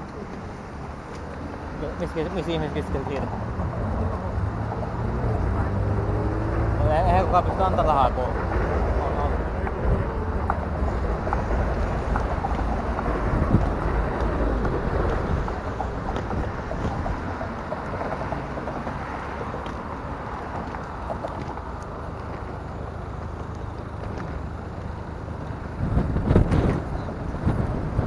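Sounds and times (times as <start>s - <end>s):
cars passing: 0.0s - 28.0s
wind rumble on microphone: 0.0s - 28.0s.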